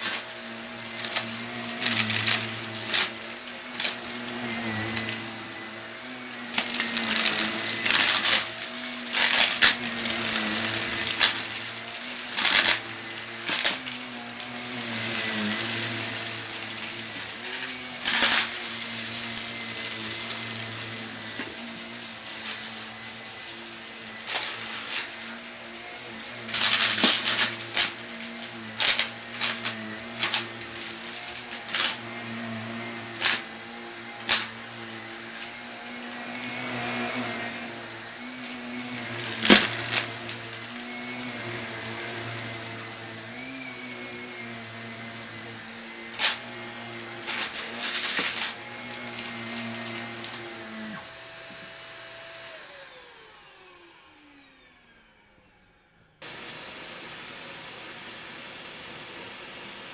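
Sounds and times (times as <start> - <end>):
debris rattling through vacuum: 0.0 - 51.2
vacuum cleaner running: 0.0 - 59.9.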